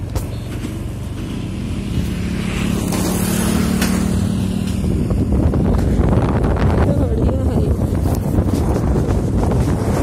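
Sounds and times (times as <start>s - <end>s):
vehicle road noise rumble: 0.0s - 10.0s.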